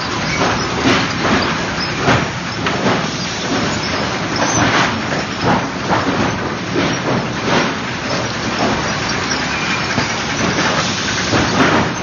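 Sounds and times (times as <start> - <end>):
machinery knocks and clunks: 0.0 - 12.0
steady machine noise: 0.0 - 12.0.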